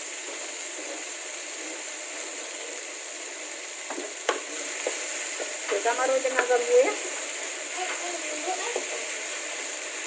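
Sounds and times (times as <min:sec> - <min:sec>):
paste sizzling in hot oil: 0:00.0 - 0:10.0.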